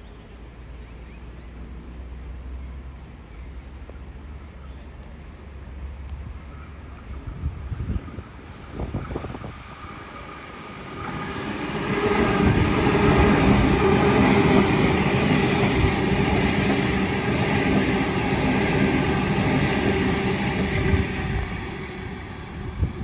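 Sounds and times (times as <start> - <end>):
wheels rumbling on rail: 1.6 - 23.0.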